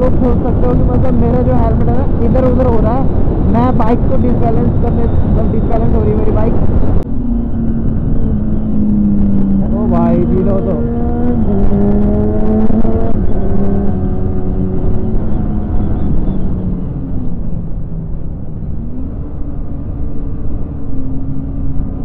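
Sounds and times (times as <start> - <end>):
motorcycle engine: 0.0 - 22.0
wind buffeting microphone: 0.0 - 22.0.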